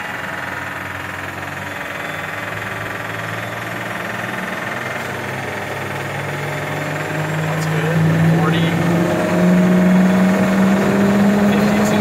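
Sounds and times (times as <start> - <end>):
high turbine whine: 0.0 - 12.0
low engine drone: 0.0 - 12.0
turboprop engine running: 0.0 - 12.0.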